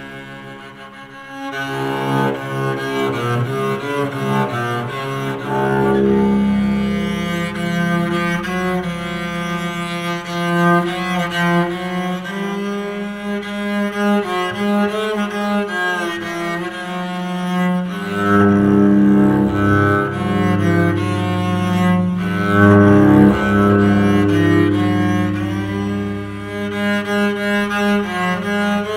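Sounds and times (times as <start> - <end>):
electric cello melody: 0.0 - 28.9.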